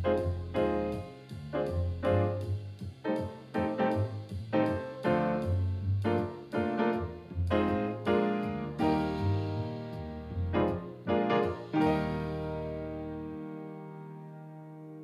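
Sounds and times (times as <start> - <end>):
jazz piano chords: 0.0 - 15.0.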